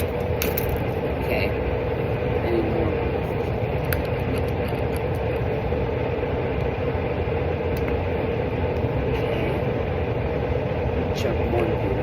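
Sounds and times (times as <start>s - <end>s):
mechanical drone: 0.0s - 12.0s.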